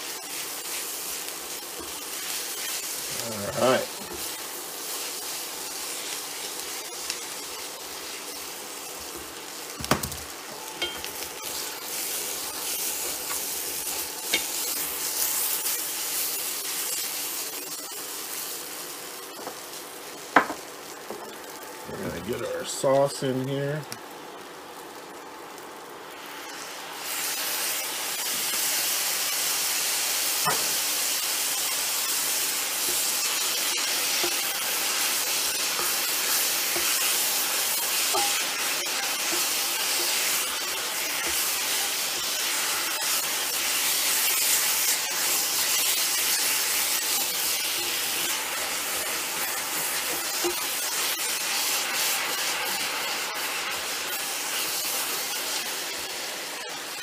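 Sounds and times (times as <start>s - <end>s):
noodles sizzling in a wok: 0.0s - 57.0s.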